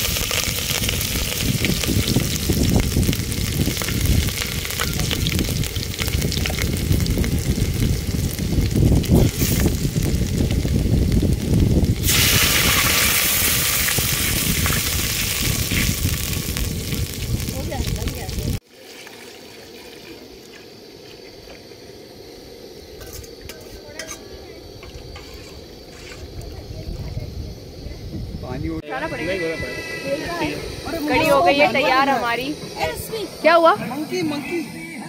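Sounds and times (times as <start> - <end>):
hot oil sizzling: 0.0 - 35.0.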